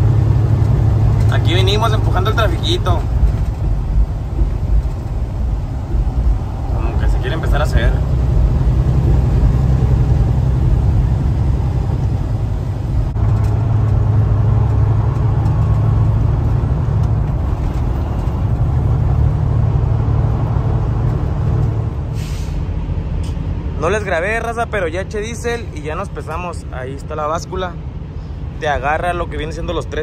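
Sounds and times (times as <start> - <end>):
truck engine and road drone: 0.0 - 30.0.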